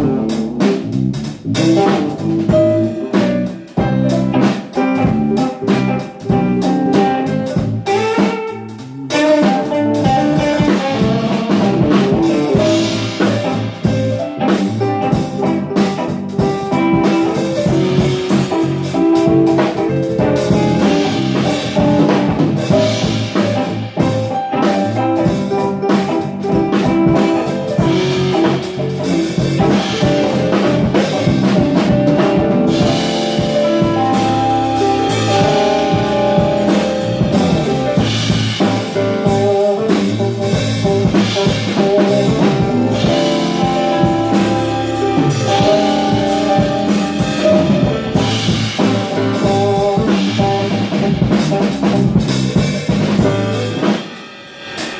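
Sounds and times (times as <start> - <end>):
drums keeping steady beat: 0.0 - 54.9
live band playing: 0.0 - 54.9.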